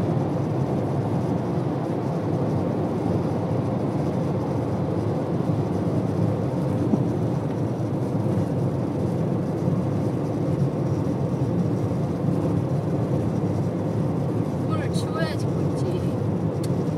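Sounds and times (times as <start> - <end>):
road and tyre rumble: 0.0 - 16.9.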